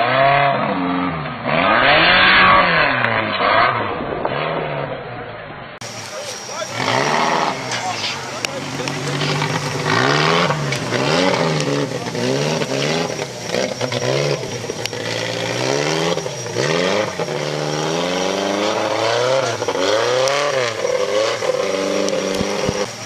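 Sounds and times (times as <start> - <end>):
buggy engine revving: 0.0 - 23.0.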